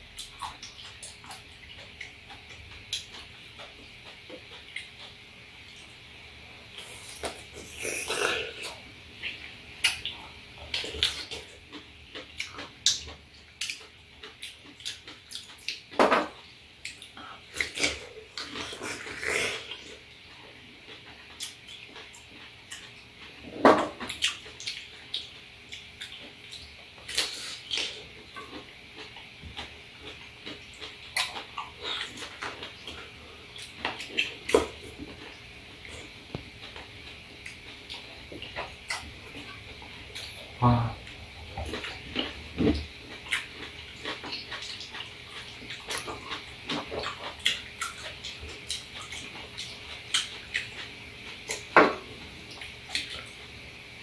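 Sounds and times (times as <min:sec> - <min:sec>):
people chewing wetly: 0:00.1 - 0:53.6.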